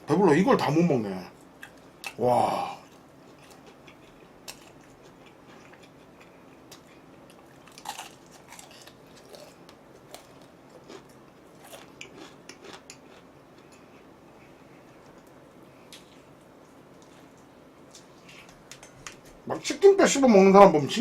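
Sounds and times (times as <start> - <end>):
person chewing food: 1.6 - 19.3.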